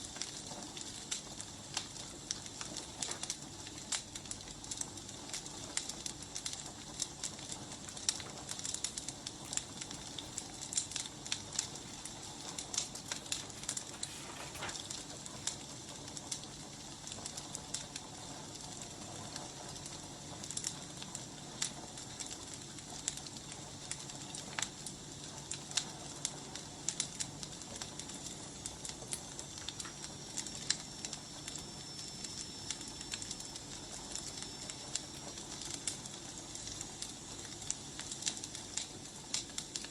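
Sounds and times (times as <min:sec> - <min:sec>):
firewood crackling and popping: 0:00.0 - 0:39.9
steady hiss: 0:00.0 - 0:39.9.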